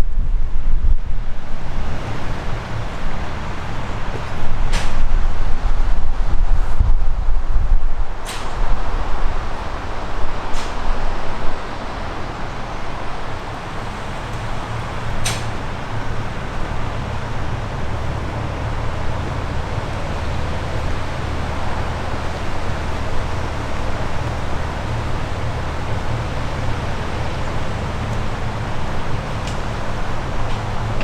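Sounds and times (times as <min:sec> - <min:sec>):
diesel engine humming: 0:00.0 - 0:31.0
wind on microphone: 0:00.0 - 0:31.0.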